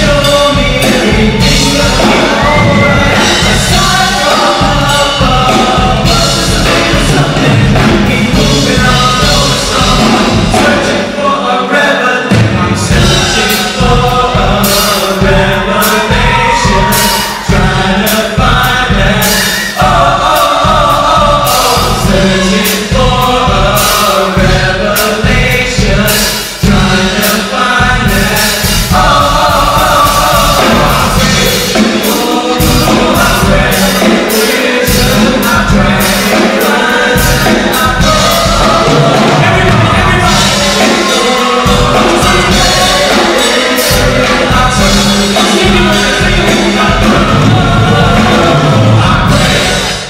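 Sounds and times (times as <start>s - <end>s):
steady drum beat: 0.0s - 11.2s, 12.3s - 50.0s
voices singing together: 0.0s - 50.0s.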